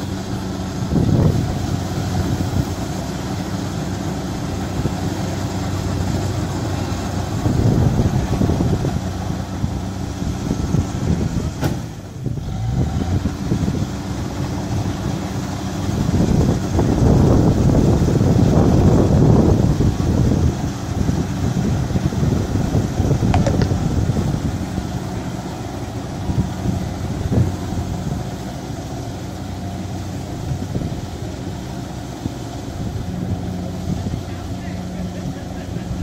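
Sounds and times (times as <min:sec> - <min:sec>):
combine harvester engine drone: 0:00.0 - 0:36.0.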